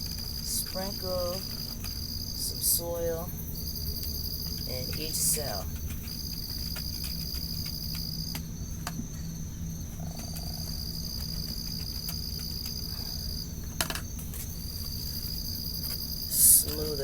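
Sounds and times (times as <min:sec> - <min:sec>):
crickets trilling: 0:00.0 - 0:17.0
low steady hum: 0:00.0 - 0:17.0.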